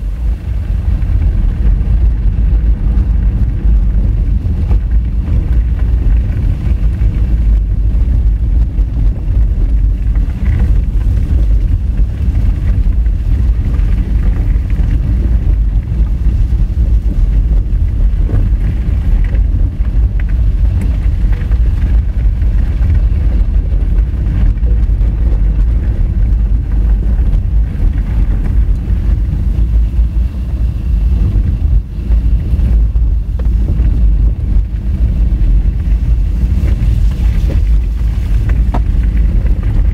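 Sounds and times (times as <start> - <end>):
tyres rumbling over gravel: 0.0 - 39.9
wind noise on microphone: 0.0 - 39.9.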